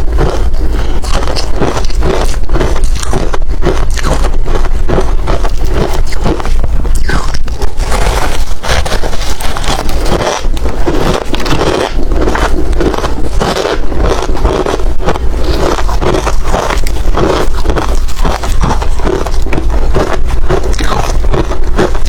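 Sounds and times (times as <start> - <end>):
person chewing ice: 0.0 - 22.0.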